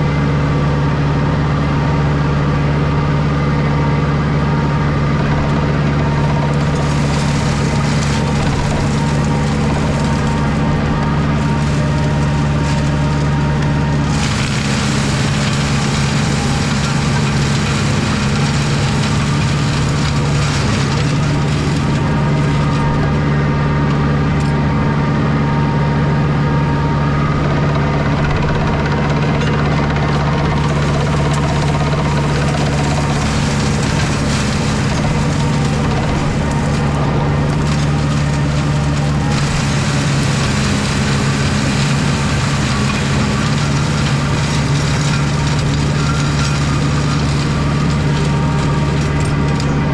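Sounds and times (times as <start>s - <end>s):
mulcher shredding brambles: 0.0s - 49.9s
tractor engine under load: 0.0s - 49.9s.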